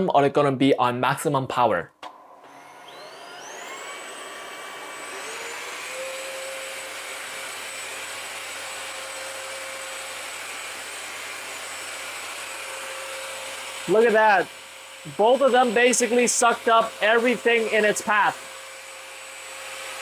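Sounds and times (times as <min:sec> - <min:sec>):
vacuum cleaners whining: 0:02.1 - 0:20.0.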